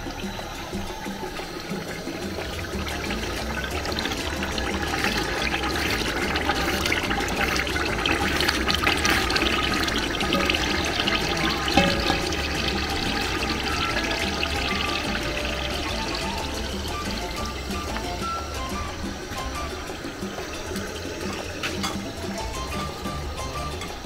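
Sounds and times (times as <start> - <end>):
liquid splashing and pouring: 0.0 - 24.0.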